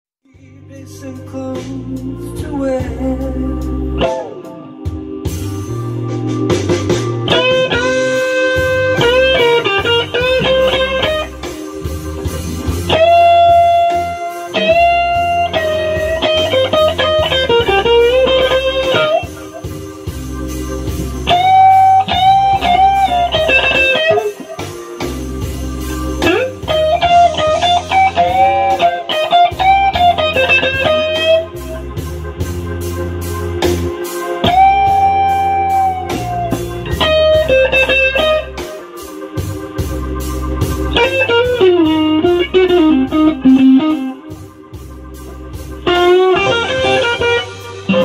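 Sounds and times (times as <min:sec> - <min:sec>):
bass line: 0:00.4 - 0:48.0
electric guitar blues lead: 0:00.7 - 0:48.0.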